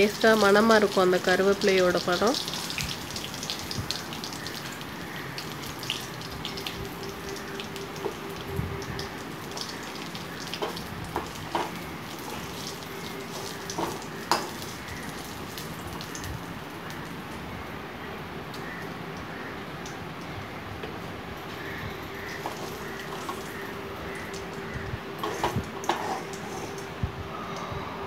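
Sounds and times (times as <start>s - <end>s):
oil sizzling: 0.0s - 17.5s, 21.2s - 27.0s.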